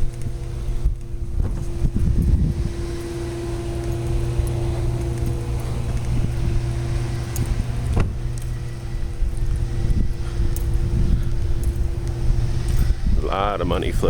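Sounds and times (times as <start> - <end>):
motor running with low rumble: 0.0 - 14.0.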